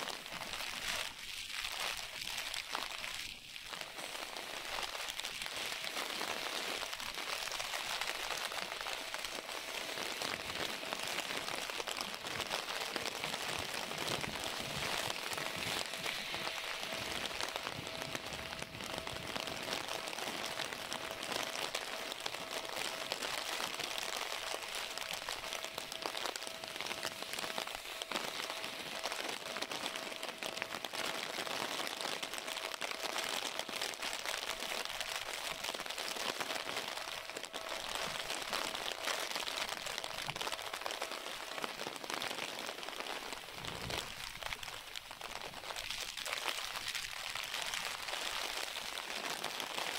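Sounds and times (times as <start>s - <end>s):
heavy rain on umbrella: 0.0s - 49.9s.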